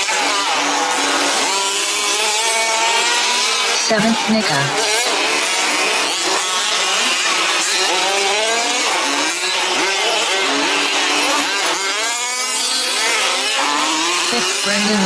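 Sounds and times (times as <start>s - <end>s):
small engines revving: 0.0s - 15.0s.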